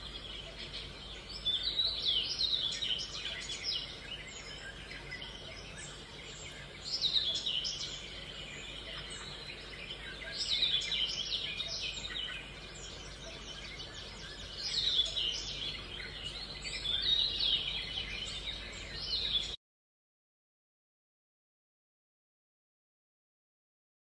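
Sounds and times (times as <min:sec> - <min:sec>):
faint steady hum: 0:00.0 - 0:19.6
small birds chirping: 0:00.0 - 0:19.6.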